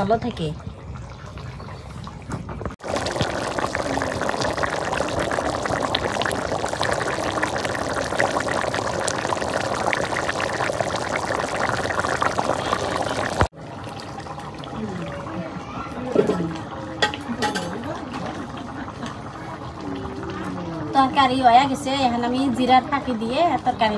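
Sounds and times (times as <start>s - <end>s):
curry bubbling in pot: 0.1s - 23.8s.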